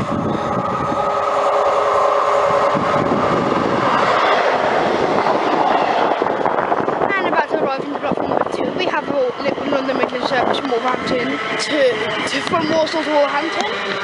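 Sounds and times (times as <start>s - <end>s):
steady train whine: 0.0s - 14.0s
train wheel and rail rush: 0.0s - 14.0s.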